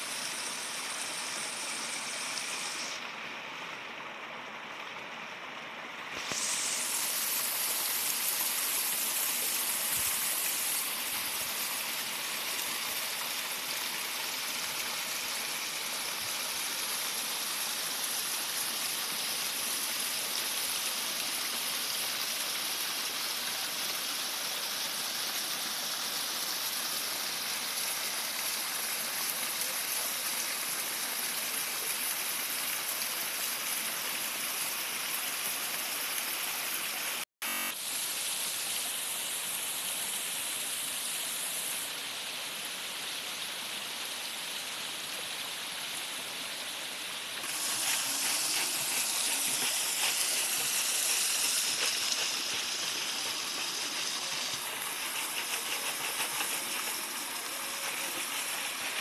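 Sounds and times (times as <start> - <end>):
stream splashing over boulders: 0.0 - 40.8, 41.7 - 59.0.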